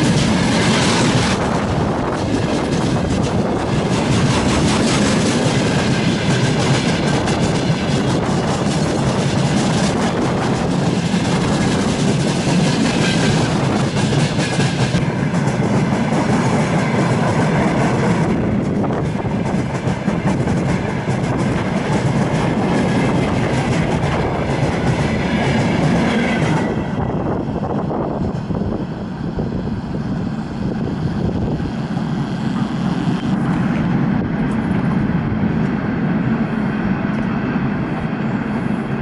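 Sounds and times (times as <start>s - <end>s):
freight train wagons rumbling: 0.0s - 39.0s.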